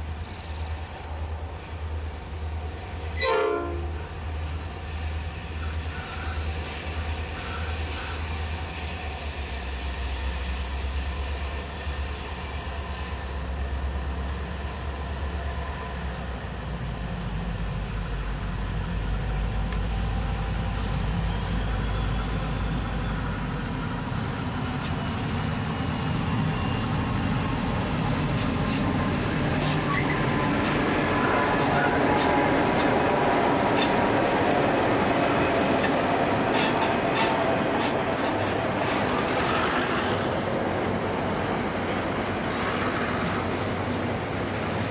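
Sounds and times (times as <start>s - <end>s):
diesel locomotive engines rumbling: 0.0s - 44.9s.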